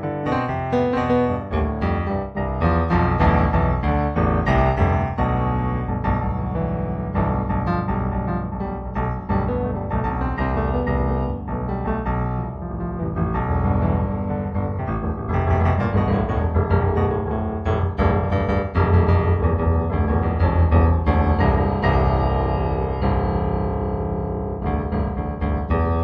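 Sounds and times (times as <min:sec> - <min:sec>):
solo piano music: 0:00.0 - 0:26.0.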